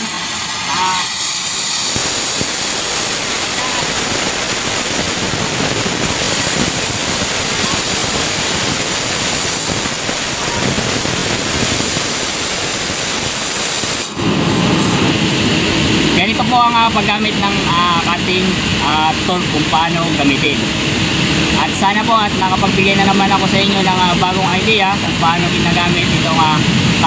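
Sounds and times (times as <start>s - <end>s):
cutting torch flame hissing: 0.0s - 27.0s.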